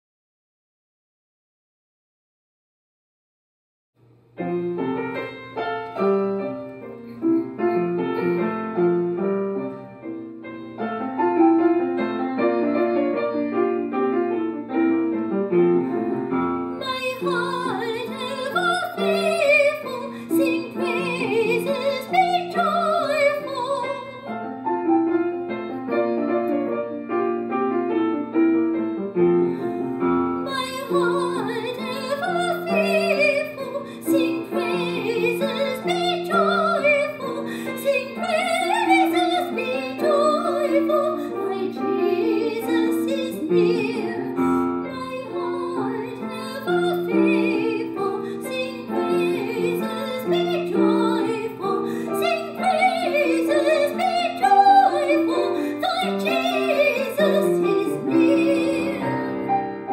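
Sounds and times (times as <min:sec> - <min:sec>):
piano playing chords: 0:04.3 - 0:59.9
person singing classical melody: 0:04.4 - 0:59.9.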